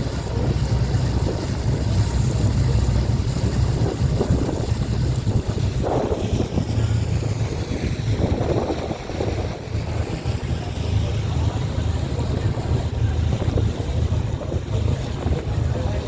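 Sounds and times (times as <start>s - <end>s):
motorboat engine droning: 0.0s - 16.0s
water noise: 0.0s - 16.0s
wind buffeting microphone: 0.0s - 16.0s.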